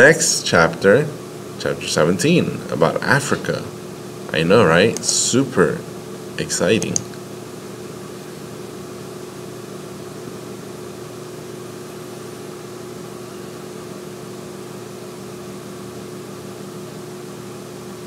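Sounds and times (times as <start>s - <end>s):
constant low hum: 0.0s - 16.6s.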